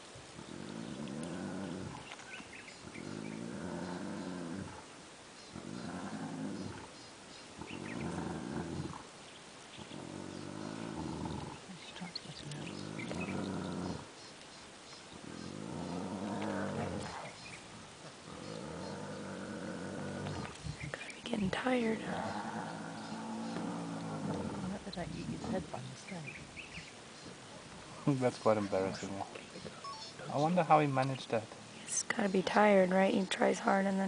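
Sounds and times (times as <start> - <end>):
lions growling: 0.3 - 7.0, 7.6 - 9.1, 9.8 - 14.2, 15.2 - 31.4.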